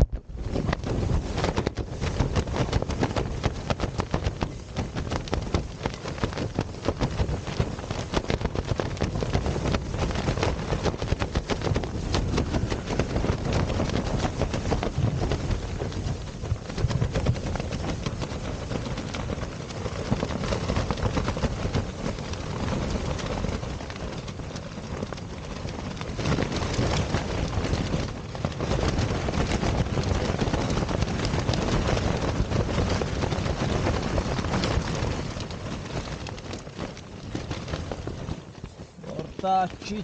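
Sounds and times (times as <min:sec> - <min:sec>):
tent flysheet flapping: 0:00.0 - 0:40.0
wind rumble: 0:00.0 - 0:40.0.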